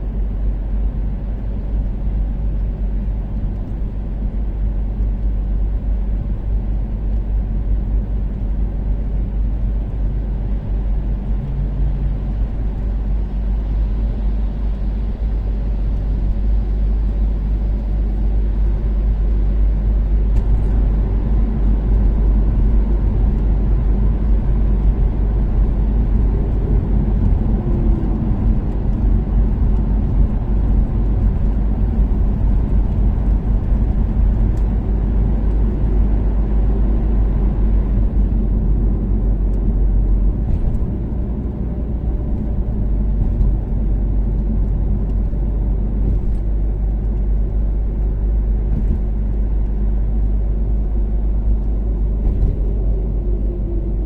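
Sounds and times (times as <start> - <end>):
car engine drone while cruising: 0.0 - 54.0.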